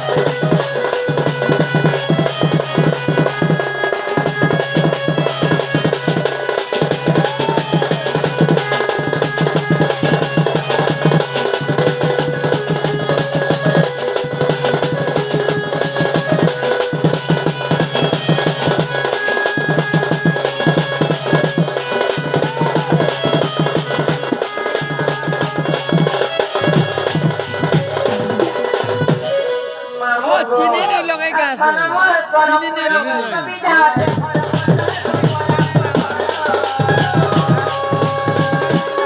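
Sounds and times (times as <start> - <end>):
folk drum ensemble: 0.0 - 39.0.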